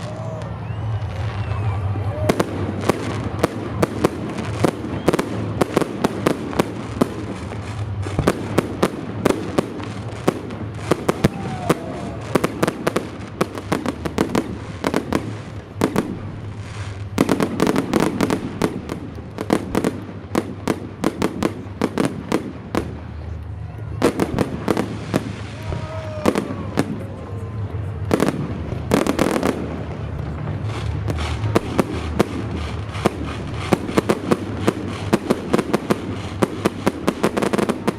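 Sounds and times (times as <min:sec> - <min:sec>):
fireworks bangs and crackles: 0:00.0 - 0:37.9.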